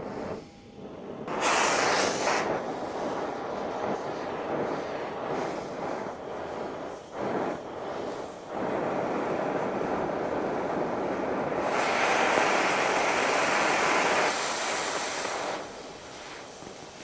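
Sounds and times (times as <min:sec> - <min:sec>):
cutting torch hissing: 0:01.2 - 0:17.0.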